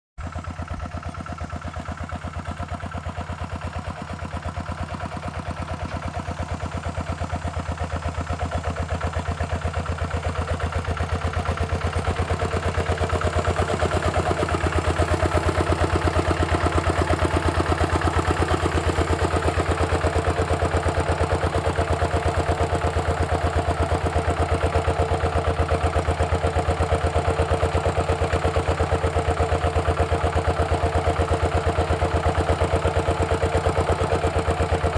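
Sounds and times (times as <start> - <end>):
diesel engine putter: 0.2 - 34.9.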